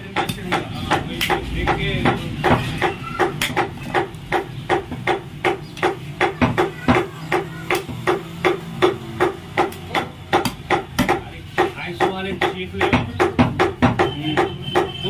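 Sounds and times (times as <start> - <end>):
cleaver chopping on wooden block: 0.1 - 15.0.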